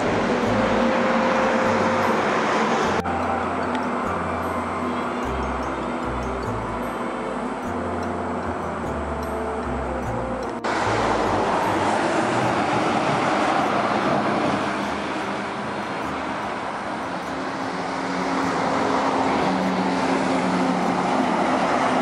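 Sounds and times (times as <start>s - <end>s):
highway traffic passing: 0.0s - 22.0s
truck engine hum: 0.0s - 22.0s.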